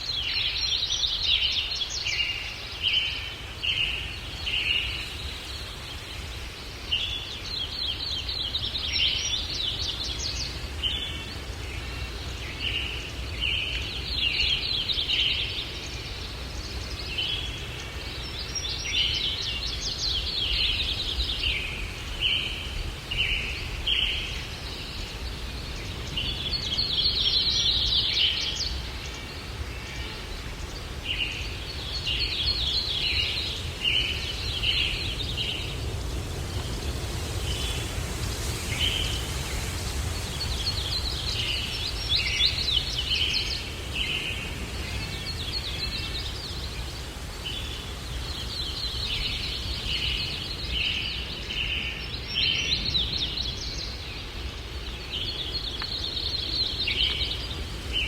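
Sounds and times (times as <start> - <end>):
low rumble of breeze: 0.0 - 58.0
songbirds chirping: 0.0 - 58.0.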